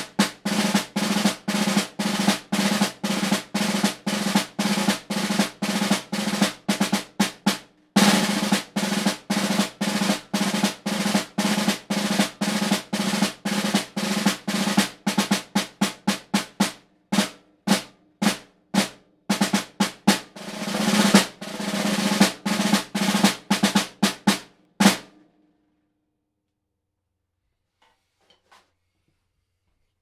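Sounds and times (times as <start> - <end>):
snare drum march: 0.0 - 25.1.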